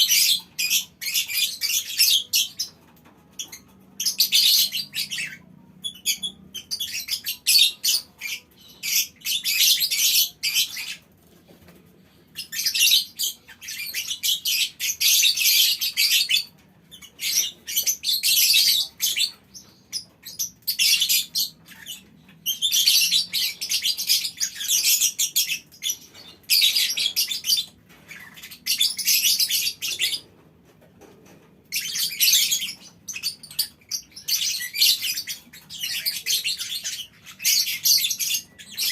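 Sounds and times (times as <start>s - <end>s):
lovebirds chattering: 0.0s - 38.9s.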